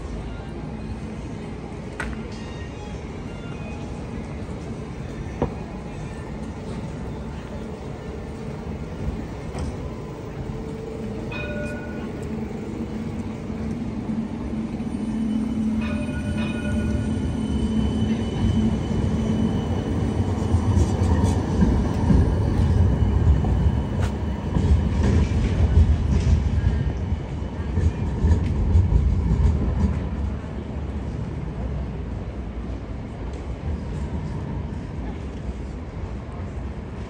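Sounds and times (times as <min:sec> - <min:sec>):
tram rumbling past: 0:00.0 - 0:37.0.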